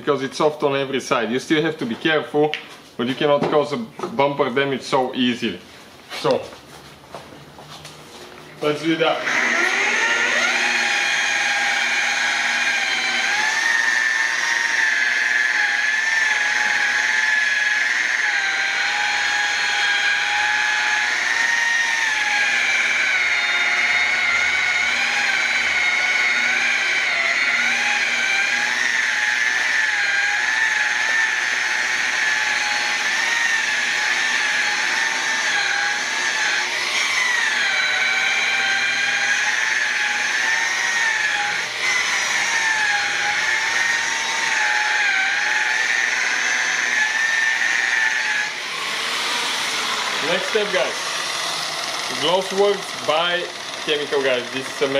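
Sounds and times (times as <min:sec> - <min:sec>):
electric polisher motor whine: 0:07.9 - 0:54.9.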